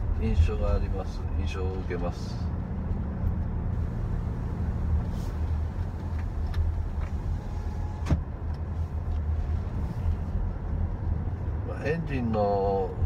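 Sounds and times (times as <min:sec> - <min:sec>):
road and tyre noise in car cabin: 0:00.0 - 0:13.0.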